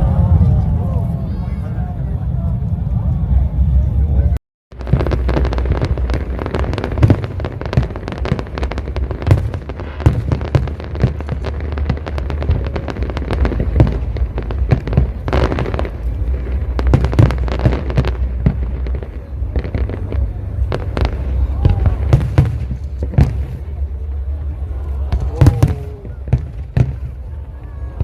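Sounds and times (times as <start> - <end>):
steady low rumble: 0.0 - 28.0
fireworks bangs and crackles: 4.7 - 28.0.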